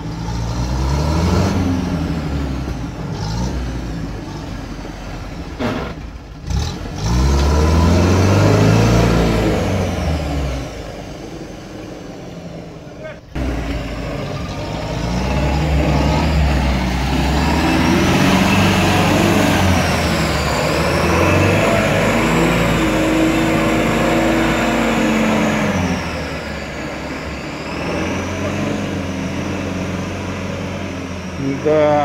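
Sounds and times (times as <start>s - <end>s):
engine revving hard in mud: 0.0s - 4.4s, 5.6s - 12.2s, 13.4s - 32.0s.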